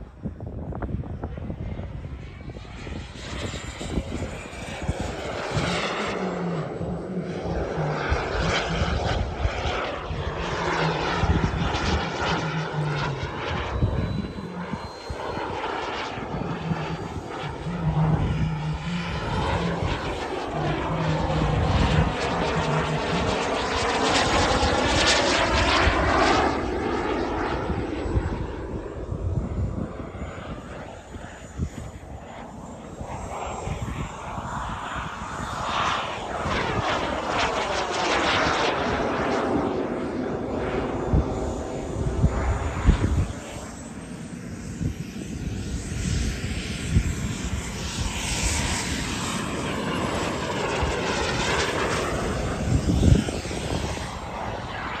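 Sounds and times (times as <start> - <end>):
model jet turbine engine: 0.0 - 55.0
sweeping whoosh of passing jet: 0.0 - 55.0.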